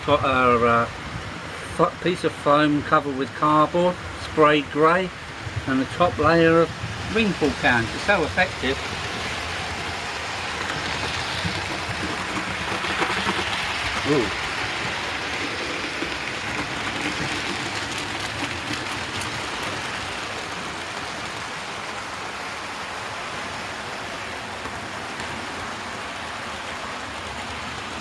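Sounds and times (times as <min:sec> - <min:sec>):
model trains rumbling on track: 0:00.0 - 0:28.0.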